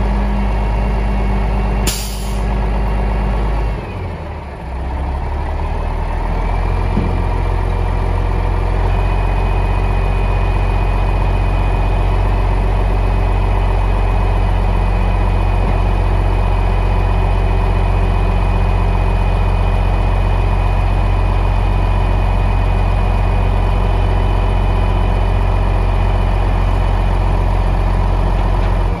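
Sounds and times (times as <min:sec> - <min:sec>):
diesel engine idling: 0:00.0 - 0:29.0
dump bed lowering: 0:00.0 - 0:29.0.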